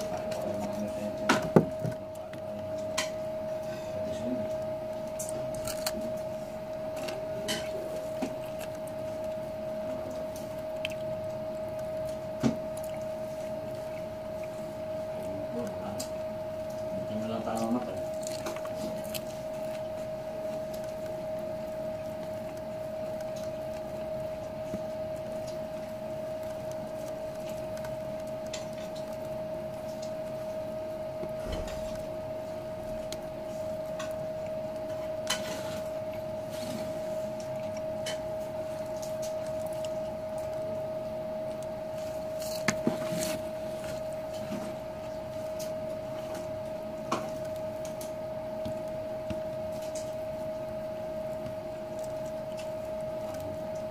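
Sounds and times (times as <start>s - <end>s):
chewing: 0.0s - 53.9s
steady high-pitched hum: 0.0s - 53.9s.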